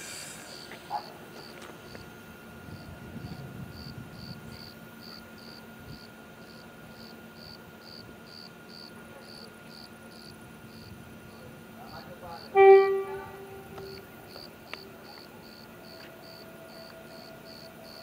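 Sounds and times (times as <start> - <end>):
crickets chirping: 2.7 - 18.0.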